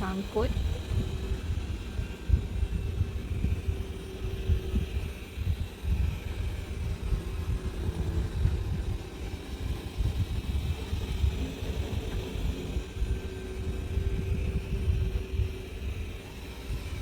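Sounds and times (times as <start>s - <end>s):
robot vacuum motor hum: 0.0s - 17.0s.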